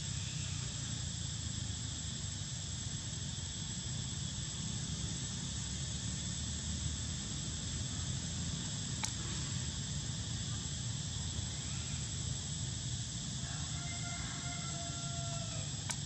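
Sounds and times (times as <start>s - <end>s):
insects droning: 0.0s - 16.0s
low outdoor rumble: 0.0s - 16.0s.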